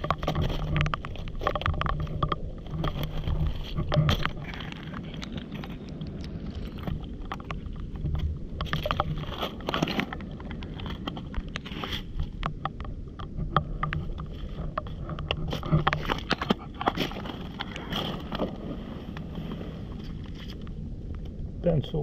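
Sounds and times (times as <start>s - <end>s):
stones and debris clicking: 0.0s - 19.3s.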